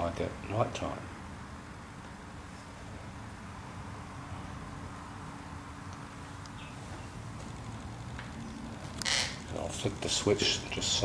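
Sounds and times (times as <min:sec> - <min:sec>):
faint constant hum: 0:00.0 - 0:11.0
low rumble and hiss: 0:00.0 - 0:11.0.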